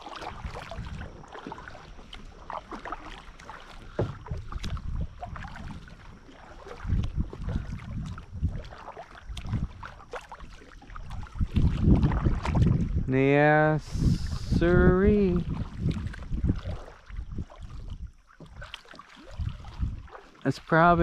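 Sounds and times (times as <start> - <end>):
paddle splashing in water: 0.0 - 21.0
wind buffeting microphone: 0.0 - 21.0.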